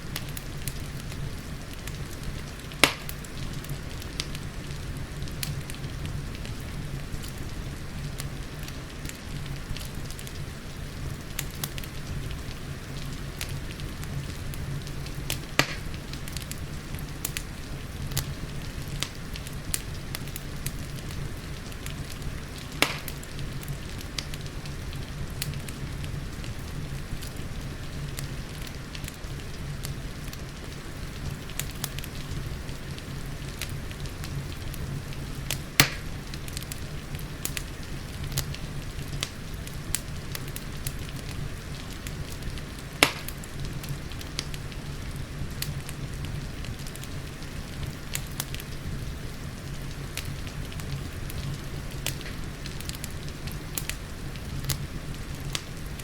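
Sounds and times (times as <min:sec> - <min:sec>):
rain hissing: 0:00.0 - 0:56.0
wood fire crackling and popping: 0:00.0 - 0:56.0.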